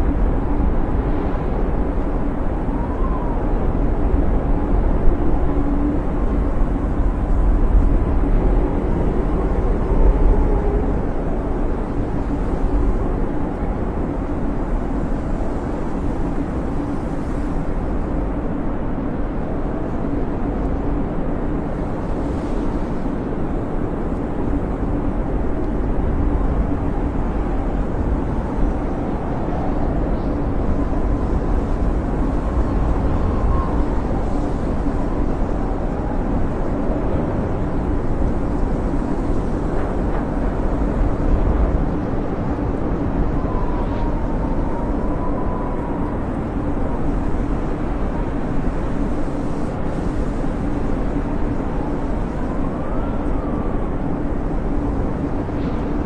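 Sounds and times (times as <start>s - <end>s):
snowstorm wind howling: 0.0s - 56.0s.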